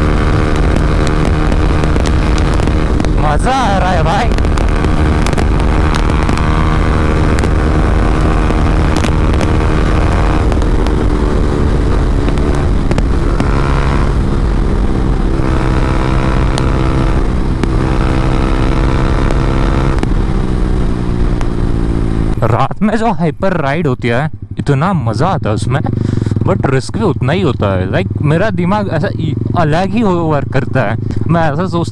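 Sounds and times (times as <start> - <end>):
motorcycle exhaust note: 0.0 - 23.4, 24.0 - 31.9.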